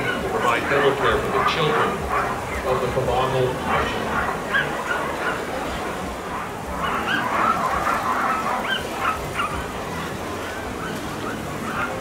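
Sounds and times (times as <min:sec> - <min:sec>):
sled dogs barking and yipping: 0:00.0 - 0:12.0.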